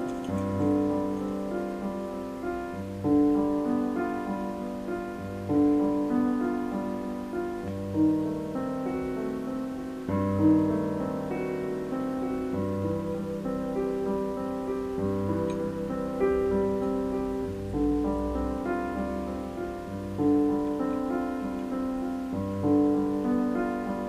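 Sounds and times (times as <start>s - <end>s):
piano slow chords: 0.0s - 24.0s.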